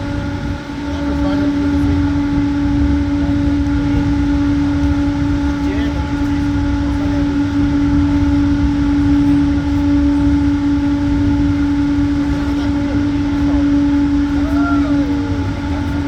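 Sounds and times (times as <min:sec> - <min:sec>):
cable car hum and rumble: 0:00.0 - 0:16.0.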